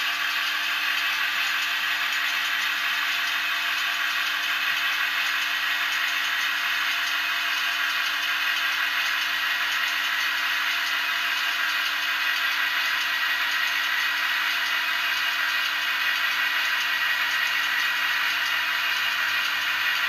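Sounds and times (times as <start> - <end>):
model diesel engine sound: 0.0 - 20.0.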